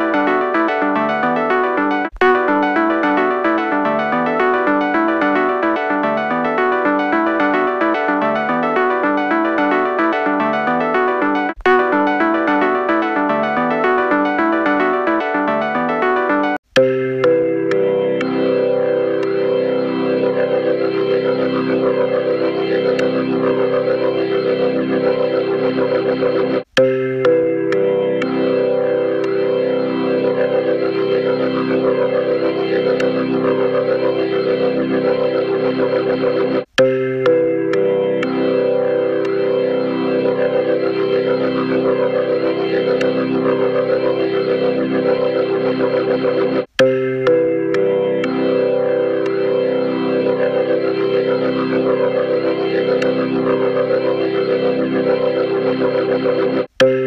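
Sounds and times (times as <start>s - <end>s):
sustained synthesizer chord: 0.0s - 57.0s.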